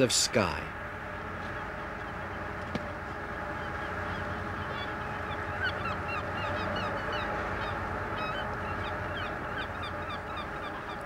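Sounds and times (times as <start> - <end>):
gulls calling: 0.0 - 11.0
steady background noise: 0.0 - 11.0.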